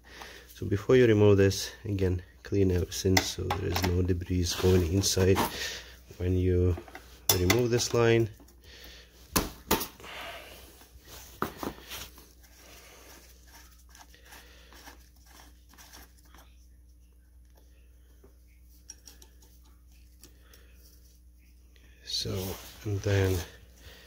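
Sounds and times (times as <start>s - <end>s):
faint handling noise: 2.5s - 8.6s, 10.8s - 23.9s.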